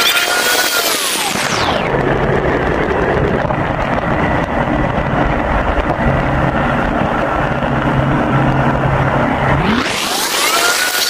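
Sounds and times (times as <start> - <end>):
speedboat engine running: 0.0 - 11.0
wind rushing over microphone: 1.2 - 10.8.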